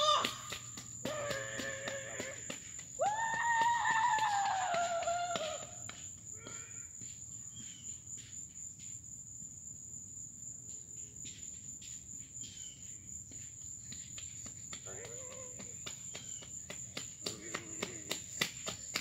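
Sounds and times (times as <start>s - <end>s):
chorus of crickets: 0.0s - 19.0s.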